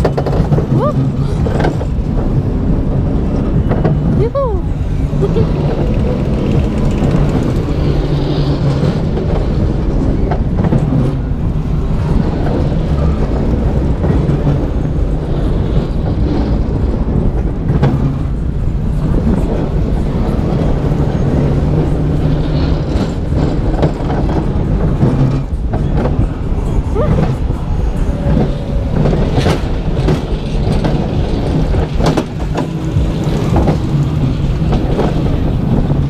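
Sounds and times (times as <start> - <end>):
roller coaster wheels rumbling on track: 0.0 - 36.0.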